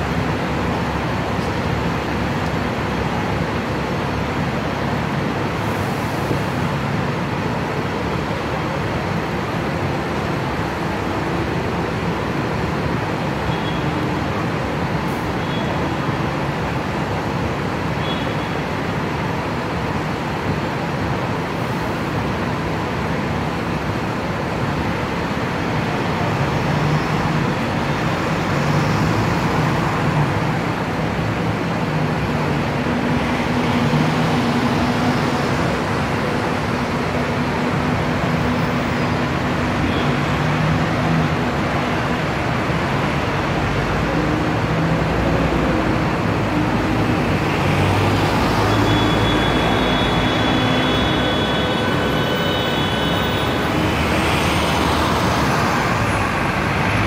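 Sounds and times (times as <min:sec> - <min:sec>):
buses and cars idling and moving: 0:00.0 - 0:57.0.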